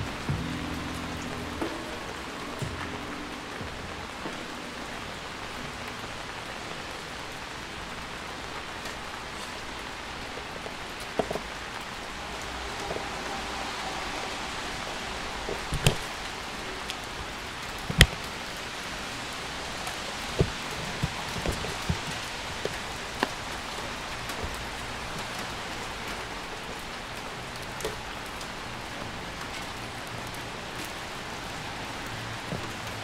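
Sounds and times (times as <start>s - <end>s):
rain falling on wet street: 0.0s - 33.0s.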